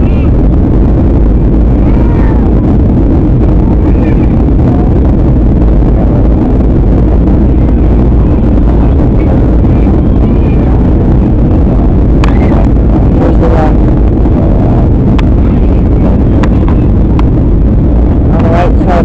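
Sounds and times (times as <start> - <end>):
faint passenger voices: 0.0 - 19.0
jet engine and airflow rumble: 0.0 - 19.0.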